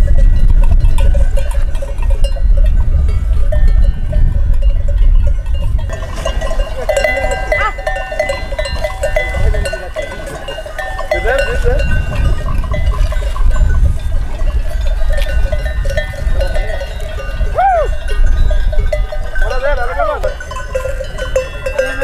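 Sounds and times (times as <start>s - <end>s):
sheep bells clinking: 0.0s - 22.0s.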